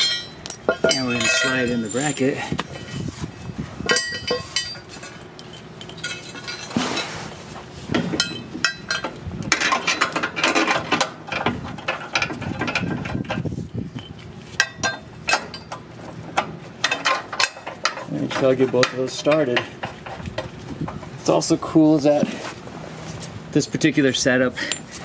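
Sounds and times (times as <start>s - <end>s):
metal scraping and clinking: 0.0s - 3.2s, 3.8s - 23.2s.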